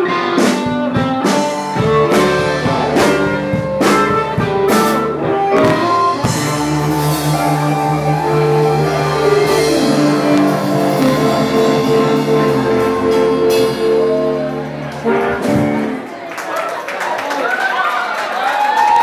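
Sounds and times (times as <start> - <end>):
guitar and drum hits: 0.0 - 16.0
blues band playing: 0.0 - 16.3.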